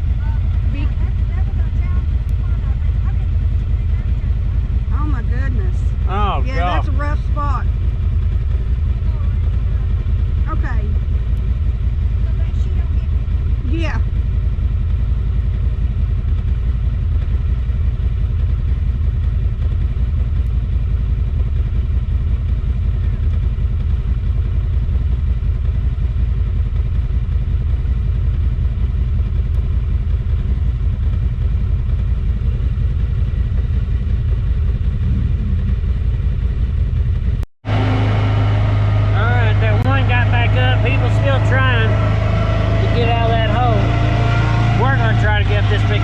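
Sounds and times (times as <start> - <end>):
vehicle engine rumbling: 0.0 - 46.0.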